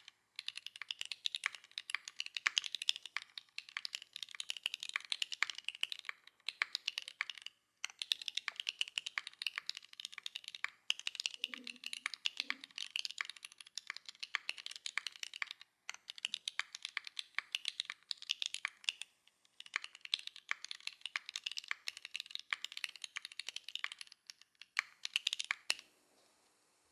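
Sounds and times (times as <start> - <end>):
mechanical keyboard typing: 0.0 - 25.8.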